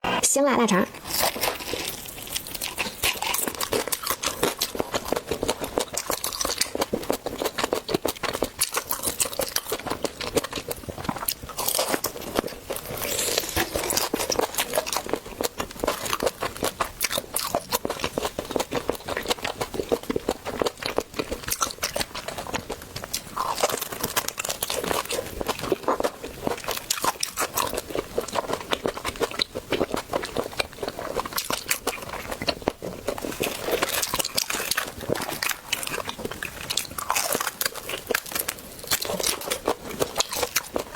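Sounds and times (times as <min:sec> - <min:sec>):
mouth clicks and crunches: 0:00.9 - 0:40.9
person chewing: 0:00.9 - 0:40.9.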